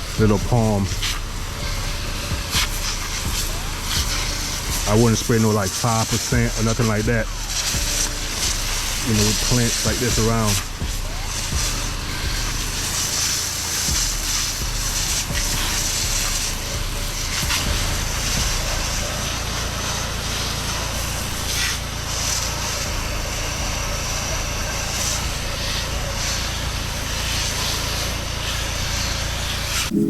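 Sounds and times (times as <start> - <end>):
pressure washer engine: 0.0 - 29.9
spray wand hissing: 0.0 - 29.9.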